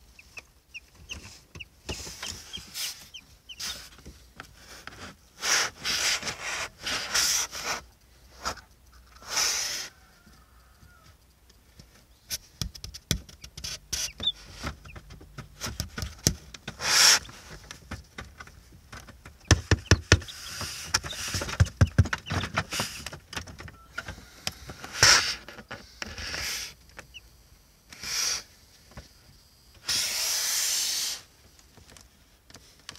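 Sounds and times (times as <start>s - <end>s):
scratchy rustling of hatching chicks: 0.0s - 32.9s.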